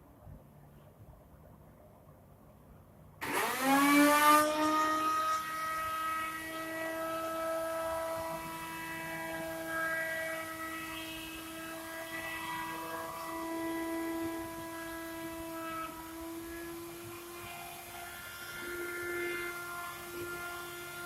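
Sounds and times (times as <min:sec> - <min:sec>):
milling spindle motor whine: 0:03.2 - 0:21.0.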